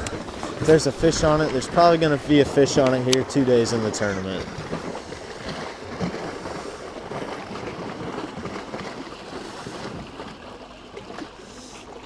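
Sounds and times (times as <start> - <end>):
water lapping around boat: 0.0 - 12.0.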